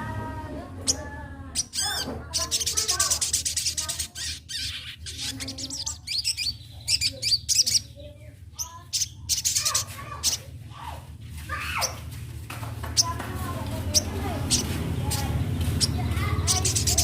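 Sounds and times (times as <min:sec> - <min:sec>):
bird chirps and trills: 0:00.0 - 0:10.7, 0:11.6 - 0:12.1, 0:12.8 - 0:17.0.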